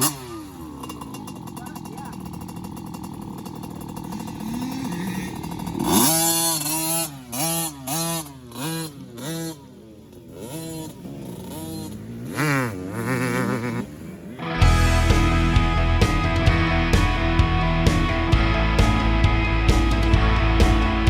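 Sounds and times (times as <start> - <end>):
dirt bike engine revving: 0.0 - 17.1.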